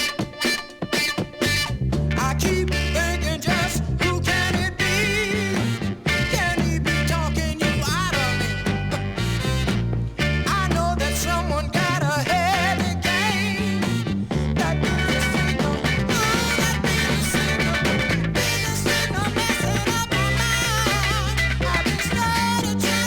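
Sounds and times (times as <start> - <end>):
soul music playing: 0.0 - 23.0.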